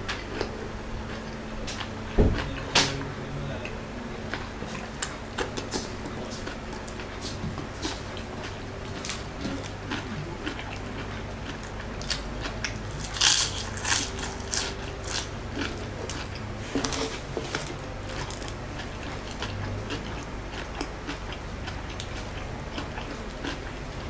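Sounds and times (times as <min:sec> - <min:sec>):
crunching and chewing spring rolls: 0:00.0 - 0:24.0.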